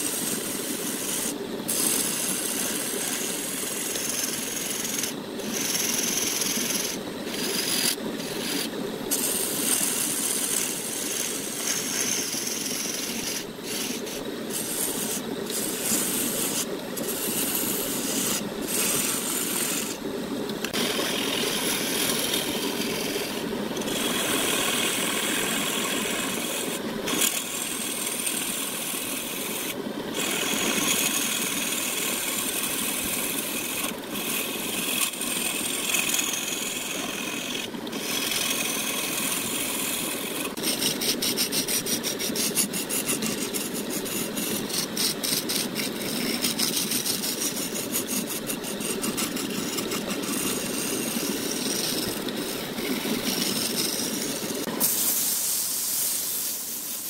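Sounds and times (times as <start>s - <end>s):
lathe tool scraping wood: 0.0s - 55.0s.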